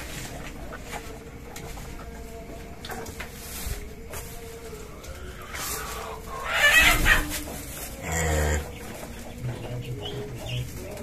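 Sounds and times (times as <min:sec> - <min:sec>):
chicken clucking and squawking: 0:00.0 - 0:11.0.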